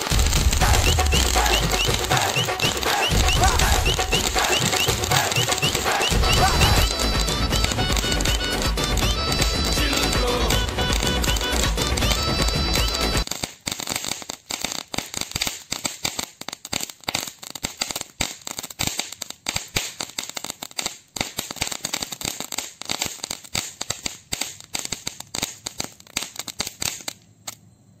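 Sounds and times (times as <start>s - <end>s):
ground firework crackling: 0.0s - 27.6s.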